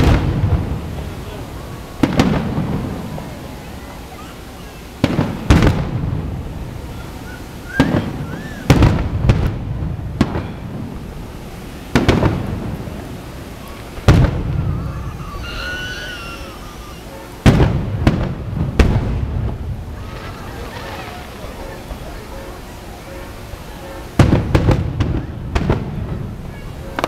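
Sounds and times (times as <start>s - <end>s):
fireworks booming: 0.0s - 27.0s.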